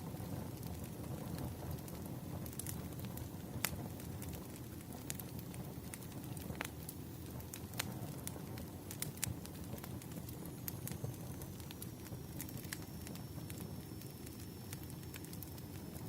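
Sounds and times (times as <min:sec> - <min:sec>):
firewood popping and crackling: 0:00.0 - 0:16.0.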